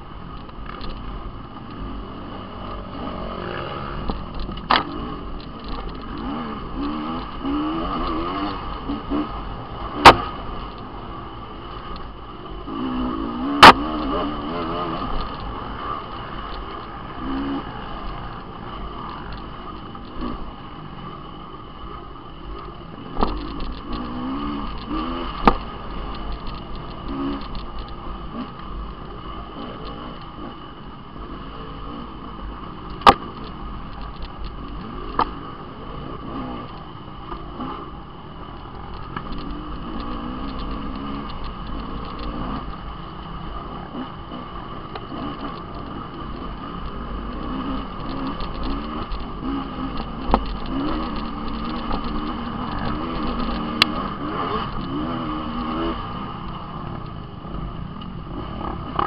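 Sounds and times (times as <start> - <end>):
dirt bike engine revving: 1.7 - 20.5, 23.1 - 33.5, 34.5 - 56.8.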